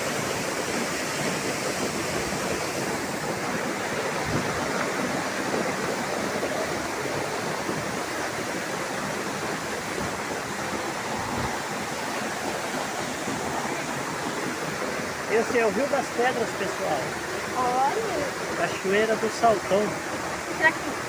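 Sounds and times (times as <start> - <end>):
waterfall rushing over rock: 0.0 - 21.0.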